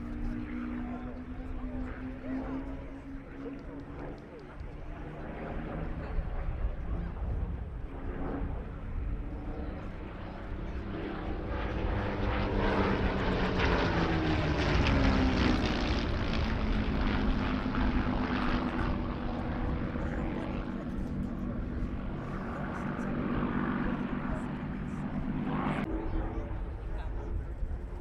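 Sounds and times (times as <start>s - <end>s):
propeller aircraft flying past: 0.0s - 28.0s.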